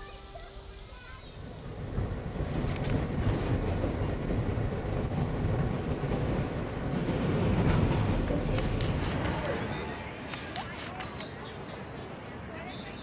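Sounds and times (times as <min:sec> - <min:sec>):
subway train wheels rumbling: 0:00.0 - 0:13.0
train clatters: 0:01.4 - 0:13.0.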